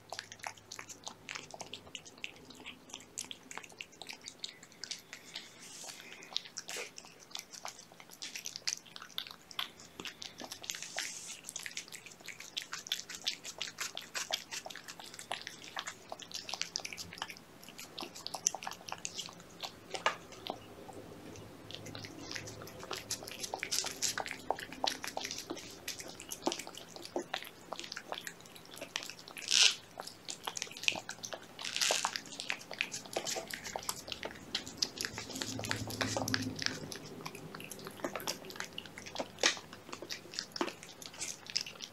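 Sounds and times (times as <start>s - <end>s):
cat chewing and licking: 0.0s - 41.9s.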